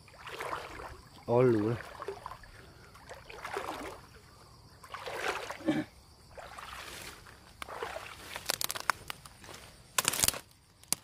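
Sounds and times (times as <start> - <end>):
splashes in shallow water: 0.0 - 9.2.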